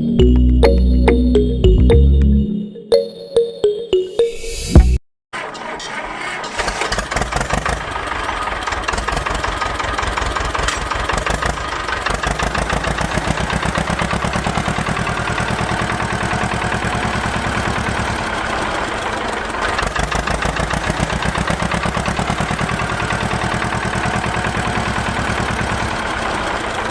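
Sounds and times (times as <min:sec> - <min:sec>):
small petrol engine running: 0:05.4 - 0:26.9.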